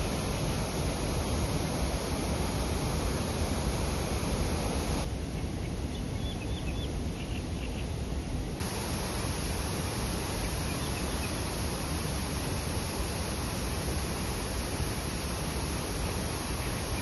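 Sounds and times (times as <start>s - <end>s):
steady outdoor rushing noise: 0.0s - 5.2s, 8.6s - 17.0s.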